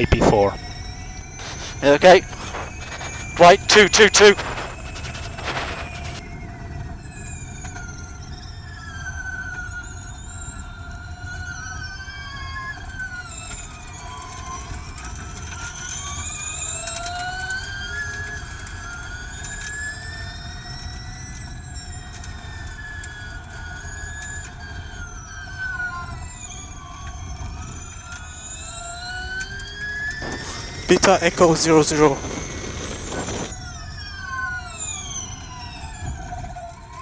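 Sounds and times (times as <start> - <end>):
electric race car whining: 0.6 - 37.0.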